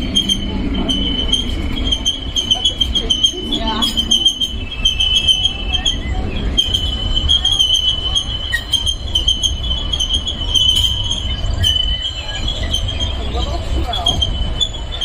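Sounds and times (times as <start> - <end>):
train cars rumbling on track: 0.0 - 15.0
train wheels squealing: 0.0 - 15.0.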